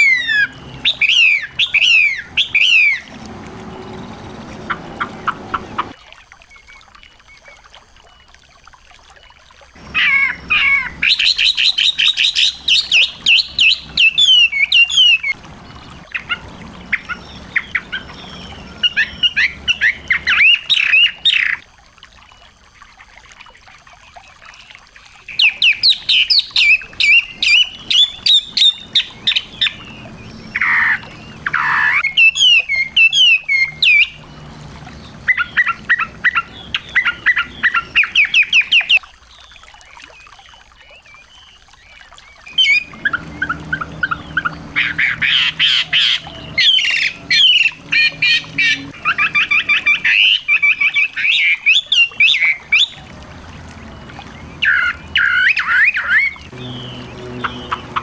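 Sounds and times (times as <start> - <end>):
songbird rapid high chirping: 0.0 - 6.0, 9.8 - 21.6, 25.3 - 39.0, 42.2 - 53.1, 53.8 - 58.0.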